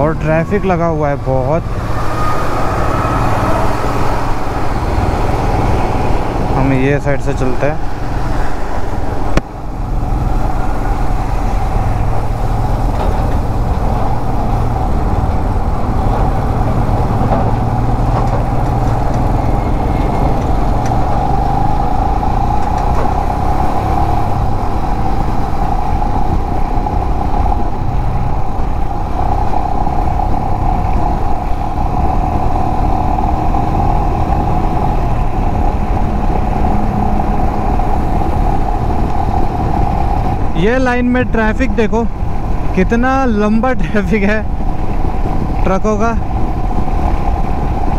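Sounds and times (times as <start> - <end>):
road noise: 0.0 - 47.9
wind noise: 0.0 - 47.9.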